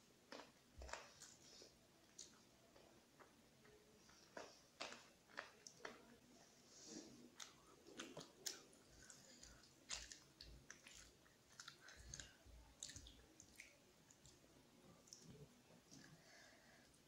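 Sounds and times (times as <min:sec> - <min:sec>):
chewing: 0:00.3 - 0:14.4.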